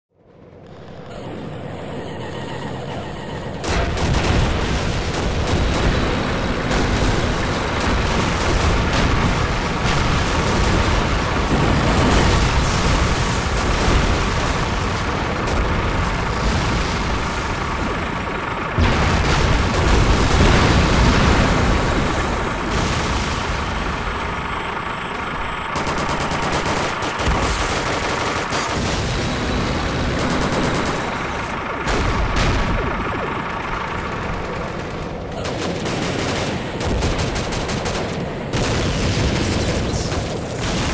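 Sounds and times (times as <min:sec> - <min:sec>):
vehicle engines rumbling: 0:00.2 - 0:27.2, 0:27.8 - 0:40.8
booms: 0:03.4 - 0:40.9
machine-gun fire: 0:03.4 - 0:40.9
rapid gunfire: 0:03.4 - 0:40.9.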